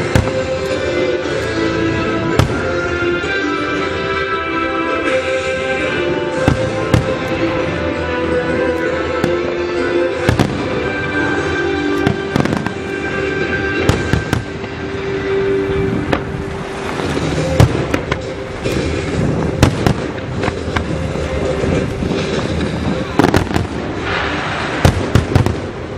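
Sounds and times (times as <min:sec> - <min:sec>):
fireworks bursting with bangs: 0:00.0 - 0:04.0, 0:05.0 - 0:25.9
music with long held notes: 0:00.0 - 0:25.9.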